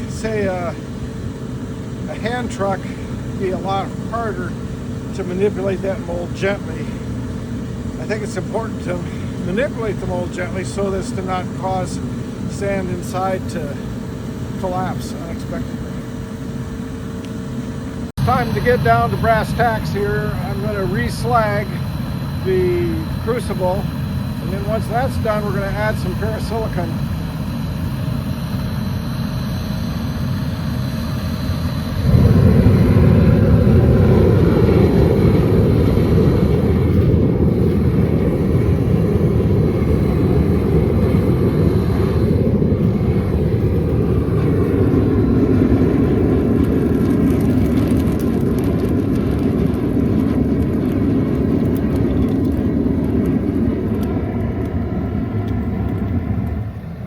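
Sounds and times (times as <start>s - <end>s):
furnace burning low rush: 0.0s - 57.0s.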